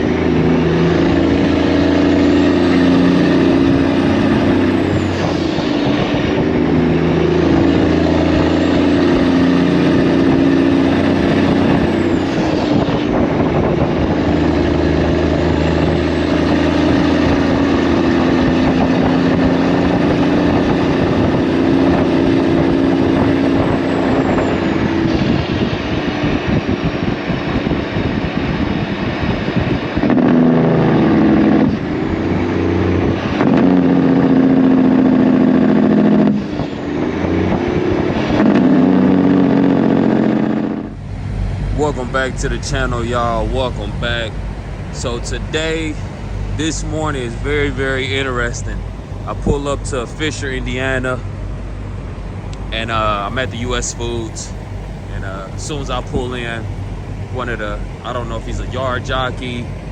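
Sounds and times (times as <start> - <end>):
truck diesel engine driving: 0.0 - 59.9.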